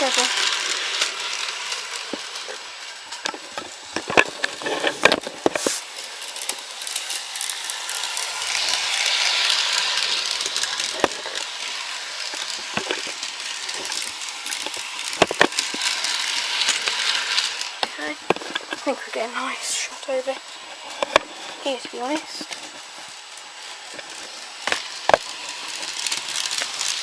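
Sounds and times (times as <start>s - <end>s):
toy train whirring on track: 0.0s - 27.0s.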